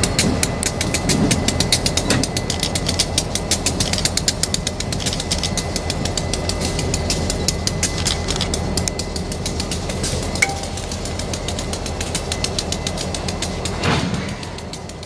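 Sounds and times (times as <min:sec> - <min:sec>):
distant diesel locomotives rumbling: 0:00.0 - 0:15.0.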